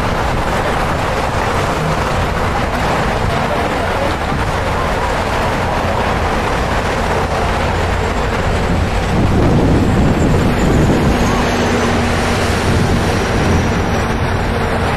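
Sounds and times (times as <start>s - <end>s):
road traffic: 0.0s - 14.9s
wind buffeting microphone: 0.0s - 14.9s.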